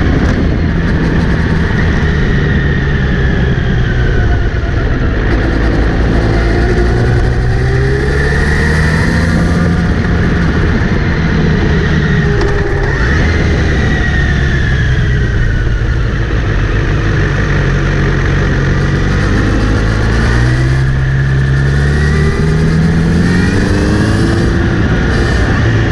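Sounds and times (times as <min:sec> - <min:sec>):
high whirring whine: 0:00.0 - 0:25.9
motorcycle engine accelerating: 0:00.0 - 0:25.9.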